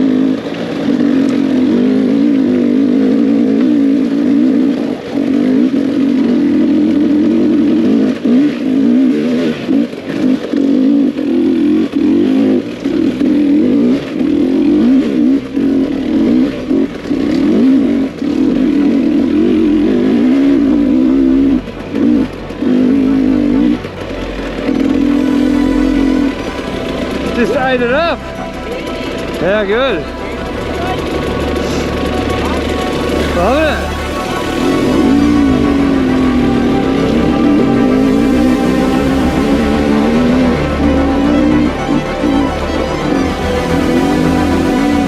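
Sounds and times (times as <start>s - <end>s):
two-stroke engine revving: 0.0s - 45.0s.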